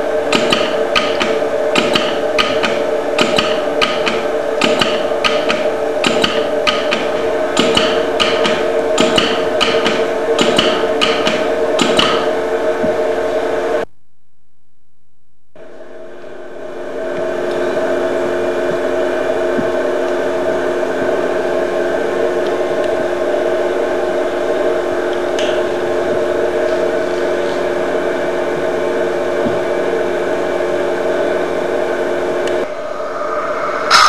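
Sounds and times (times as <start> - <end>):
motor hum and whirring: 0.0 - 13.9, 15.6 - 34.0.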